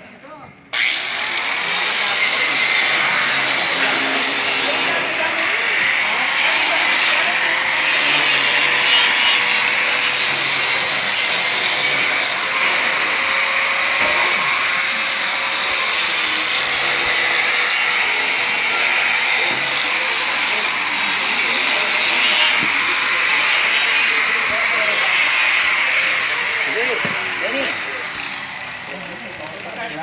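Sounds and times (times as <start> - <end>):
angle grinder grinding metal: 0.7 - 30.0.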